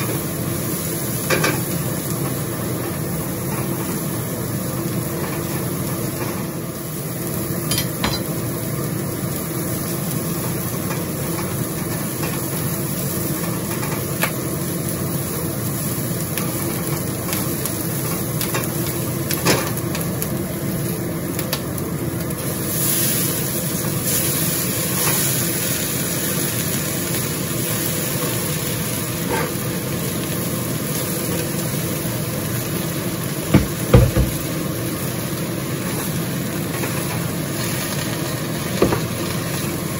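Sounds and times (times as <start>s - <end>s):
food sizzling in oil: 0.0s - 39.9s
low stove hum: 0.0s - 39.9s.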